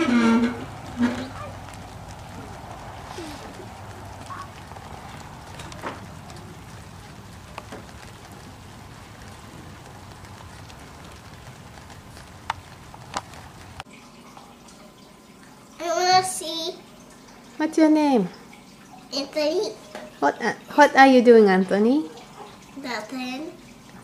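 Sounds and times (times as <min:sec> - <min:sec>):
outdoor background hiss: 0:00.0 - 0:24.0.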